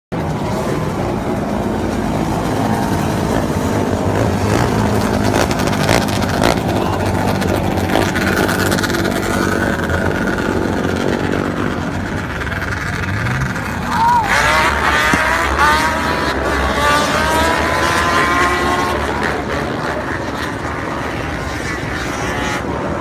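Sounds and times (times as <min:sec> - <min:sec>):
high engine whine: 0:00.1 - 0:23.0
racing engines running hard: 0:00.1 - 0:23.0.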